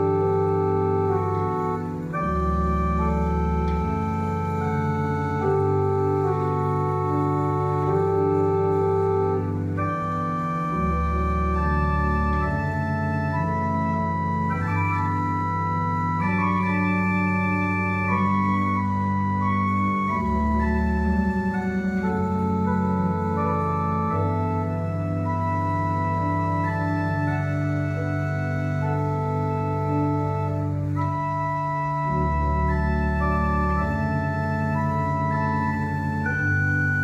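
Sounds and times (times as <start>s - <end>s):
pipe organ chords: 0.0s - 37.0s.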